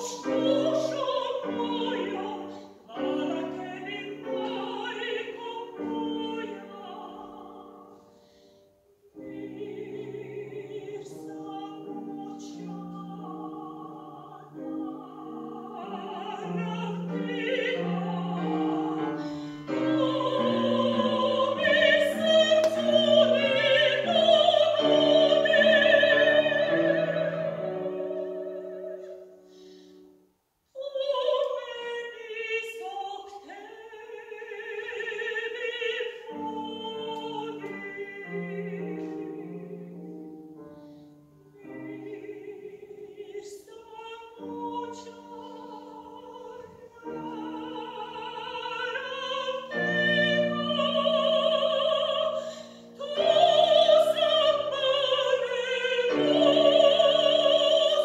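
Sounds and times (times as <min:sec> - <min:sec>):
grand piano accompaniment: 0:00.0 - 0:30.3, 0:30.9 - 0:58.0
soprano singing: 0:00.0 - 0:58.0.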